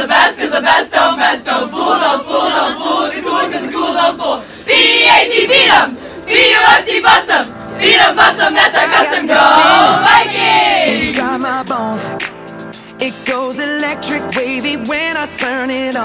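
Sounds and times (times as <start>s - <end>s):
music: 0.0s - 16.0s.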